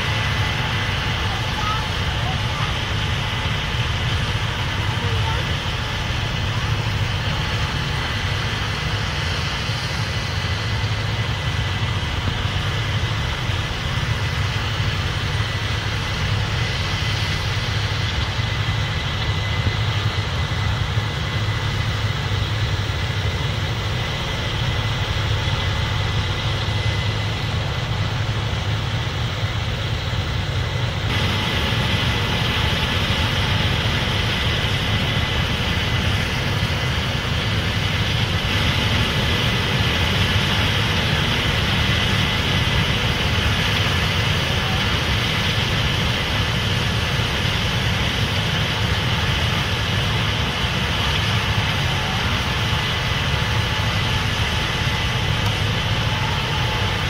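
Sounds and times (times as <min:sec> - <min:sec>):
heavy diesel engines droning: 0:00.0 - 0:57.0.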